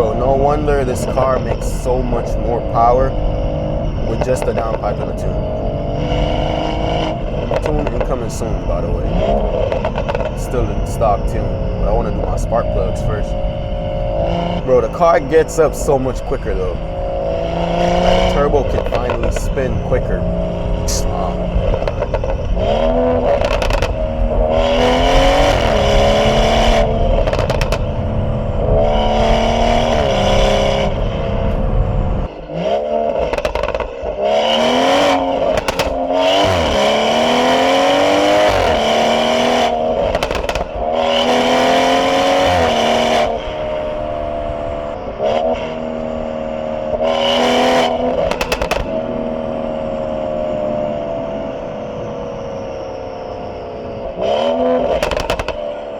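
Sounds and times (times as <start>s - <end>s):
exhaust cracks: 0.0s - 45.3s, 46.9s - 49.5s, 54.2s - 55.9s
car engine accelerating hard: 0.0s - 55.9s.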